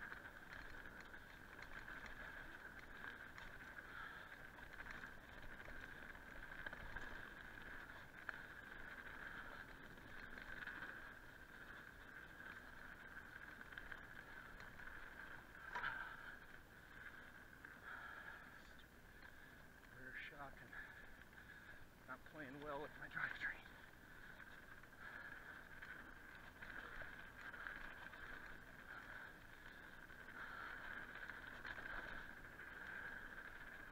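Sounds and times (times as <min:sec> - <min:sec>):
mountain bike buzzing downhill: 0:00.0 - 0:33.9.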